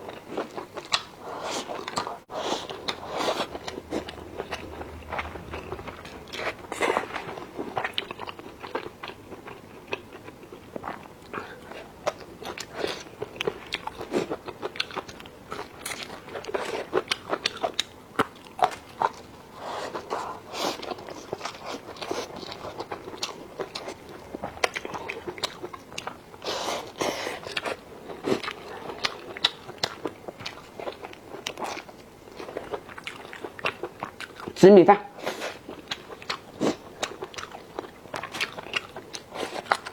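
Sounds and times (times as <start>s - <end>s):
person chewing crunchy food: 0.0s - 34.6s, 35.2s - 39.9s.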